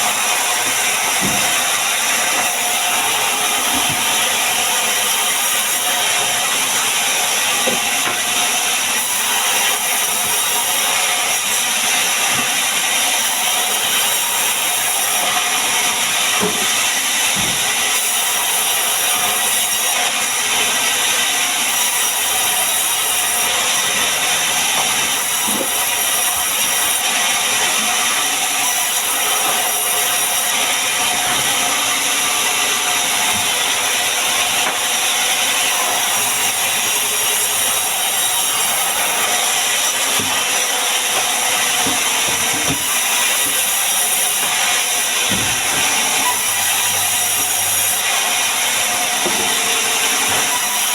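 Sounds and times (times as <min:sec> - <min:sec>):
power tool whirring on wood: 0:00.0 - 0:50.9.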